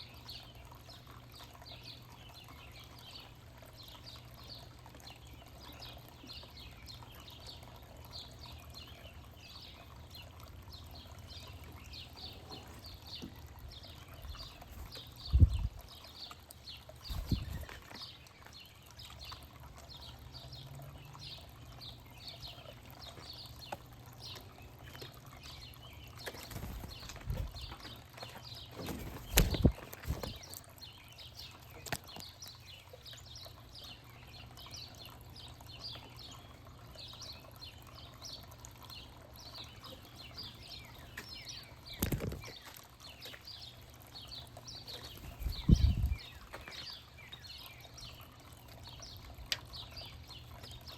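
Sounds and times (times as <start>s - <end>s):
small birds chirping and twittering: 0.0s - 50.9s.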